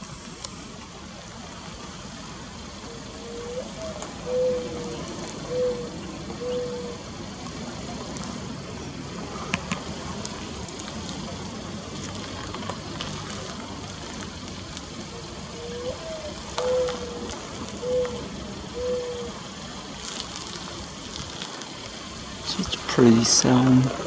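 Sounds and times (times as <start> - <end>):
steady background hiss: 0.0 - 24.0
dove cooing: 2.1 - 22.9.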